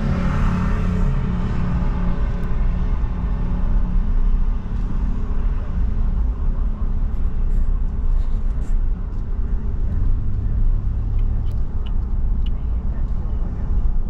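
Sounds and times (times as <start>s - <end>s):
road noise: 0.0s - 14.0s
vehicle engine rumble: 0.0s - 14.0s.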